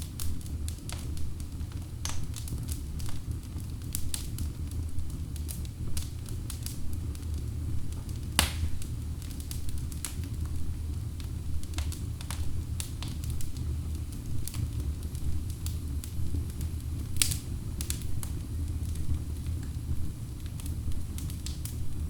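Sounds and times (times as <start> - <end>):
fire flames rumbling: 0.0 - 22.0
logs crackling and popping: 0.0 - 22.0.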